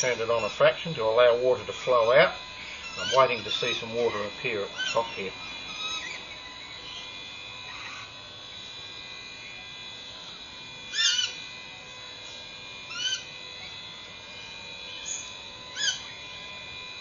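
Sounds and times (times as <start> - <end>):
animal wavering high call: 0.0 - 8.7, 10.8 - 16.5
faint high whine: 0.0 - 17.0.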